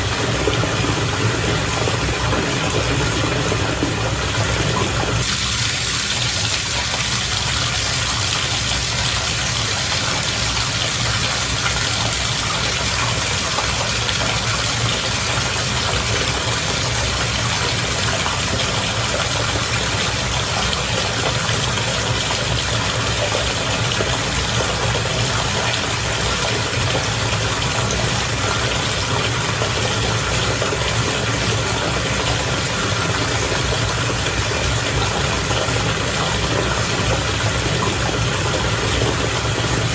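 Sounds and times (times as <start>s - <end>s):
bath water bubbling: 0.0s - 39.9s.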